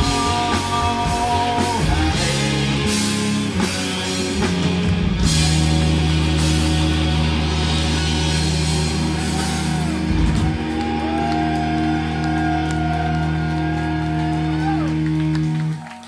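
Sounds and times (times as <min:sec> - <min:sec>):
distorted electric guitar chord: 0:00.0 - 0:15.7
high guitar tone sliding: 0:00.0 - 0:15.7
bass guitar: 0:00.0 - 0:16.0.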